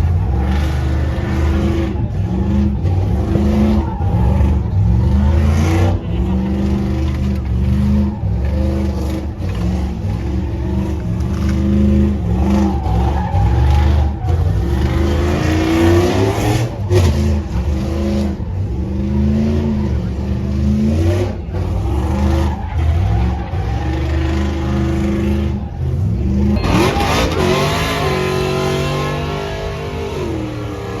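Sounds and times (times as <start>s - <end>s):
vehicle engines revving: 0.0s - 31.0s.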